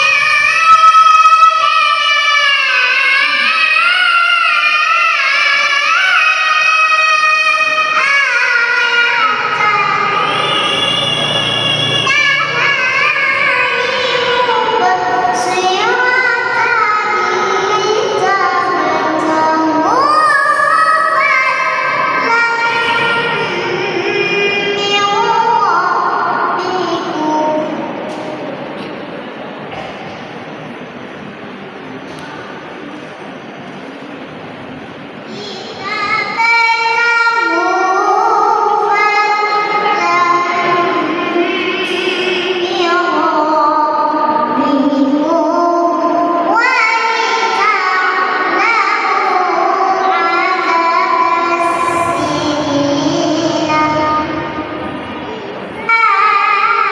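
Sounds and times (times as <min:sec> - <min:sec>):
girl chanting melodically: 0:00.0 - 0:10.8, 0:11.8 - 0:28.8, 0:35.3 - 0:56.9.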